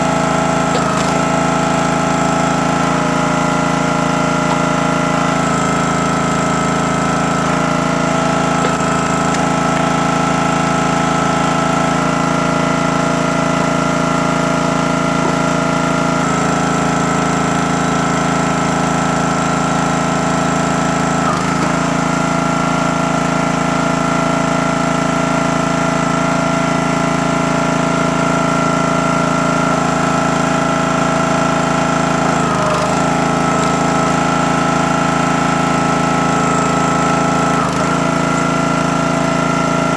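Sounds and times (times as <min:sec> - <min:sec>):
log splitter gasoline engine running: 0:00.0 - 0:39.9.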